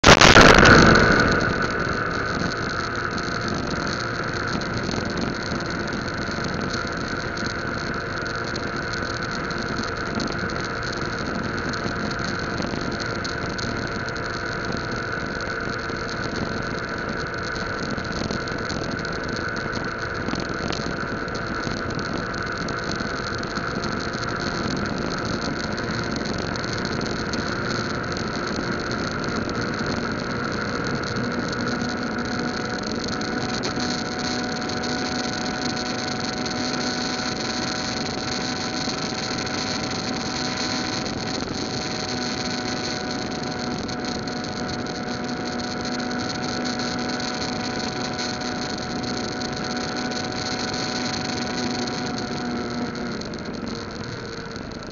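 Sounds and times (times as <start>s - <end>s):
motorcycle engine cruising: 0.0s - 54.9s
road noise: 0.0s - 54.9s
wind noise: 0.0s - 54.9s.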